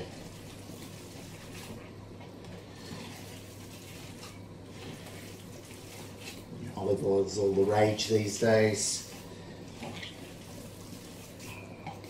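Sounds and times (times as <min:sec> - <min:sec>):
hands squishing wet meat mixture: 0:00.0 - 0:12.0.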